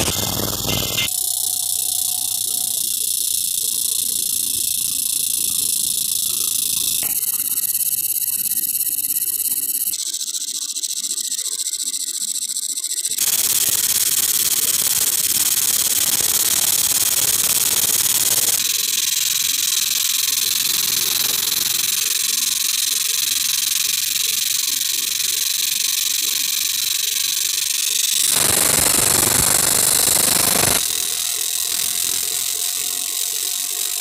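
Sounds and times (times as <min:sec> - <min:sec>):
laser engraving hiss: 0:00.0 - 0:10.0, 0:13.2 - 0:34.0.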